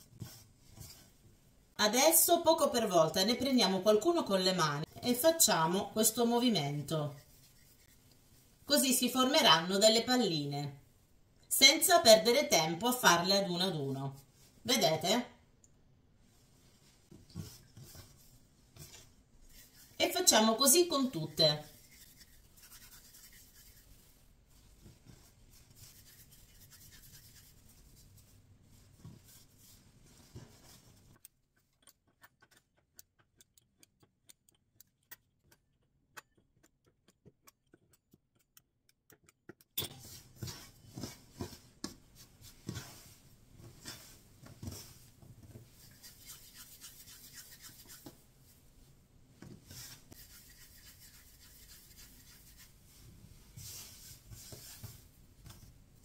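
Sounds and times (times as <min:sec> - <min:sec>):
hands rubbing dough: 0:00.0 - 0:09.9, 0:16.2 - 0:56.0.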